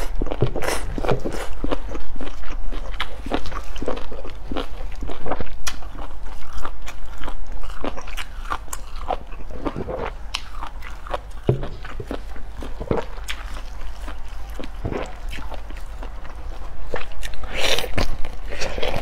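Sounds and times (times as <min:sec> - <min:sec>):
crunchy chewing: 0:00.0 - 0:19.0.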